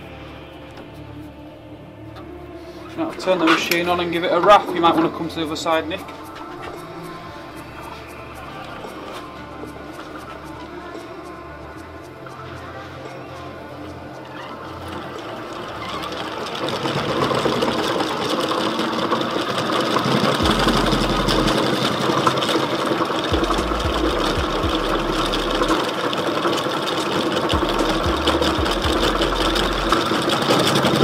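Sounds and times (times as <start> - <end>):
machine motor whirring: 3.2 - 31.0.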